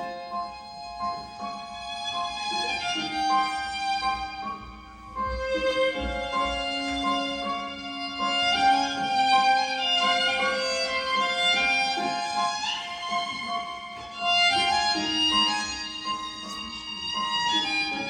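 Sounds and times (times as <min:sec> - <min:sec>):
slow bowed violin melody: 0:00.0 - 0:18.0.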